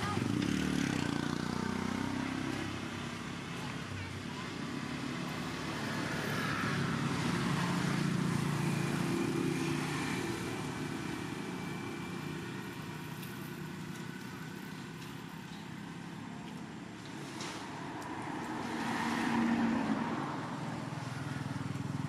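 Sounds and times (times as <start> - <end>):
vehicle engine passing by: 0.0 - 3.6, 4.6 - 16.0, 17.1 - 22.0.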